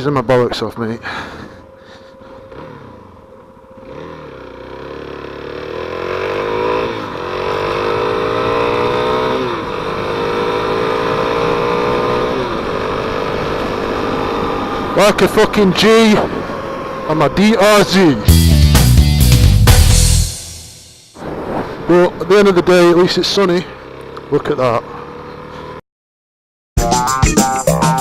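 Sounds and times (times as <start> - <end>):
motorcycle engine accelerating: 1.0 - 21.9, 23.6 - 25.8.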